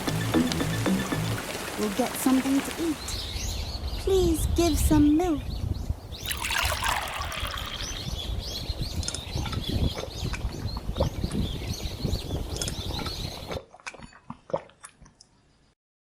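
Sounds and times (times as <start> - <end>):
birds chirping: 0.0 - 13.5.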